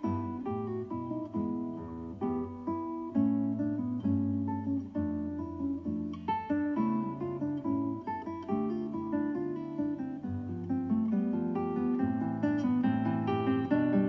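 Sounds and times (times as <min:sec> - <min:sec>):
plucked acoustic guitar: 0:00.0 - 0:14.0.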